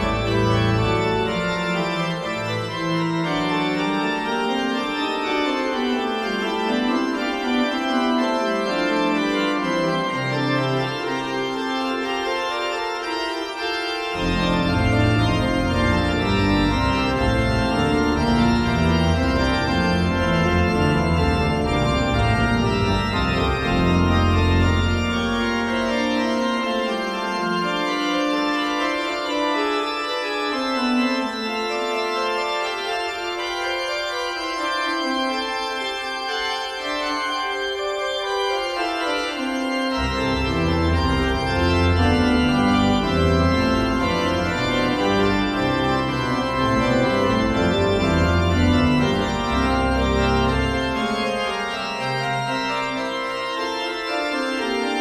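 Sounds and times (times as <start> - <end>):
organ playing slow chords: 0.0 - 55.0.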